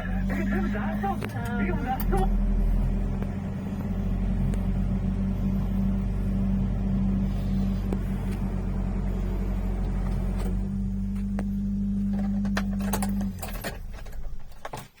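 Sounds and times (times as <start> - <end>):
truck engine idling: 0.0 - 14.7.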